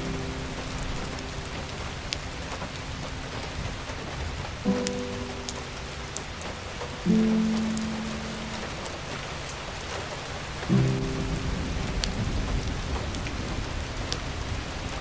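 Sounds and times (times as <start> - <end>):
soft slow music chord: 0.0 - 9.5, 10.6 - 13.4
fireplace fire crackling: 0.0 - 15.0.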